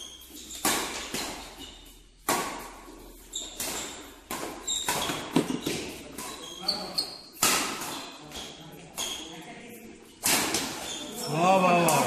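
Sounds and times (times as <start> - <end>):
rackets hitting shuttlecock: 0.0 - 9.3, 10.2 - 11.2
shoes squeaking on court: 0.0 - 11.4.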